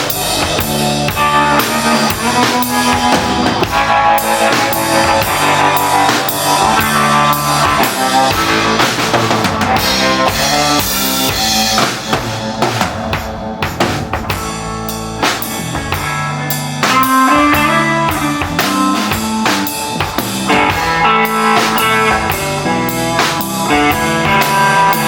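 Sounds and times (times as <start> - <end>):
drum kit beat: 0.0 - 25.0
rock band playing: 0.0 - 25.0.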